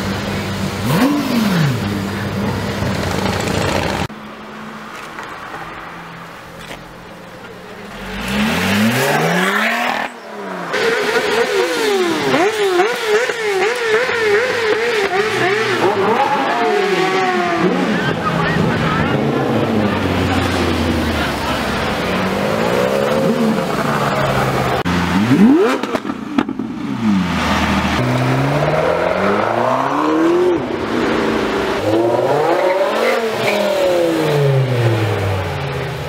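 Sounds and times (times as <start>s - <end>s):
supercar engine revving: 0.0s - 4.1s, 7.8s - 36.0s.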